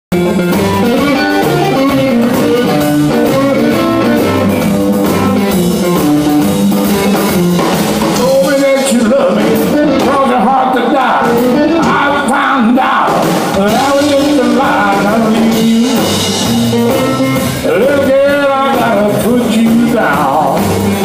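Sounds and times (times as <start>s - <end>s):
low bass line: 0.1s - 10.5s, 13.5s - 21.0s
drum kit with cymbals: 0.1s - 21.0s
electric guitar: 0.1s - 21.0s.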